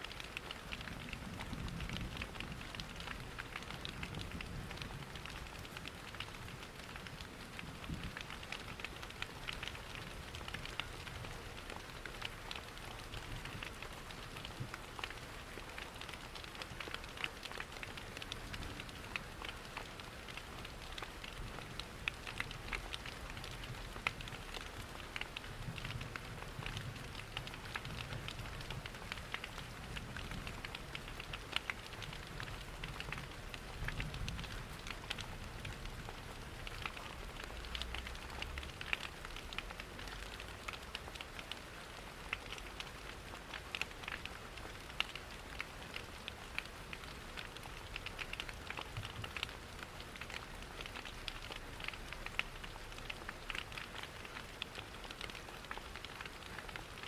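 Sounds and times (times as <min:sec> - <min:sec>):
rain pattering: 0:00.0 - 0:57.0
wood fire crackling: 0:00.2 - 0:07.0, 0:07.8 - 0:57.0.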